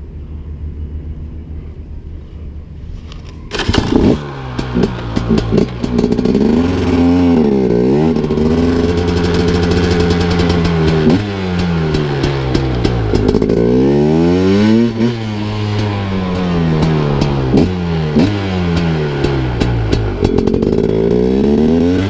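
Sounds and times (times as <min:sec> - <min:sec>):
two-stroke engine running: 0:03.5 - 0:22.0.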